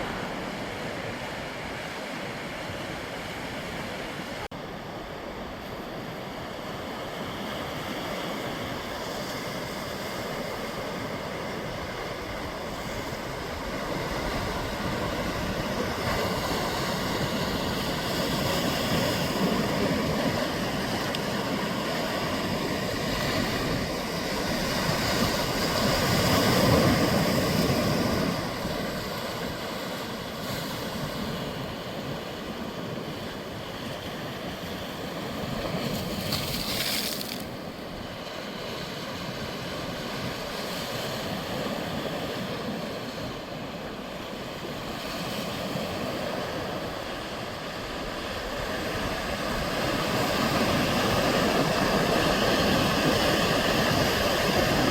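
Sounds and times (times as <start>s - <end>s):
sea waves washing on shore: 0.0s - 54.9s.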